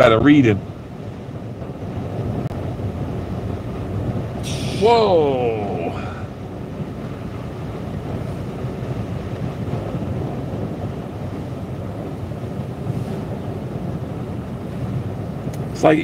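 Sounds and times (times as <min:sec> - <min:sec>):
strong storm wind: 0:00.0 - 0:16.0
waves breaking on rocks: 0:01.6 - 0:16.0.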